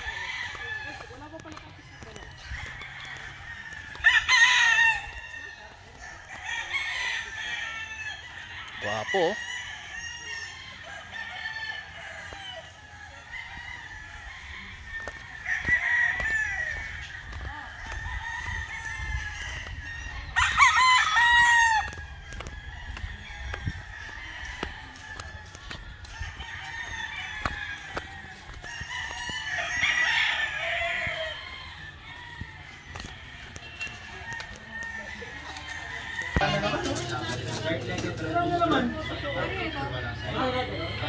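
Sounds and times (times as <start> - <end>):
distant rooster crowing: 0.0 - 41.0
roosters crowing: 0.0 - 41.0.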